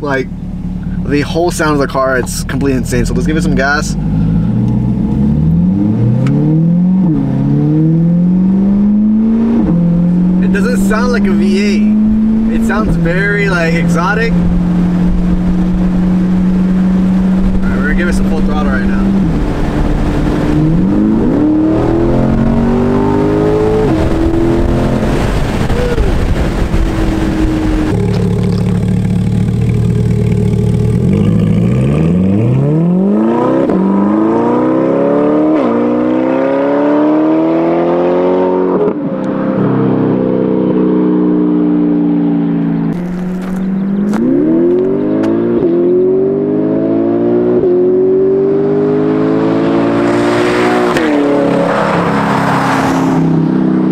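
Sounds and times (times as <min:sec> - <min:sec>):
car engine accelerating at full throttle: 0:00.0 - 0:53.9.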